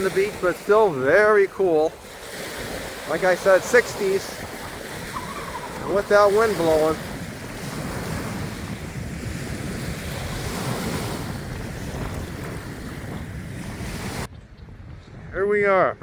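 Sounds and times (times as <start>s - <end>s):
waves washing onto beach: 0.0s - 14.3s
wind buffeting microphone: 0.0s - 16.0s.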